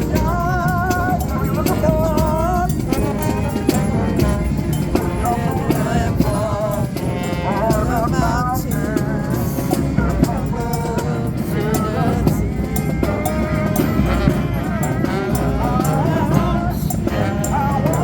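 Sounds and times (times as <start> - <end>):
horns playing wavering melody: 0.0 - 18.0
steady drum beat: 0.0 - 18.0.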